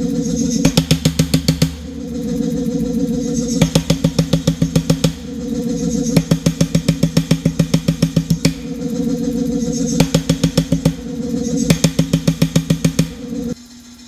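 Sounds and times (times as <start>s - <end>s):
power hammer pounding steel: 0.0s - 13.6s
motor humming: 0.0s - 14.0s.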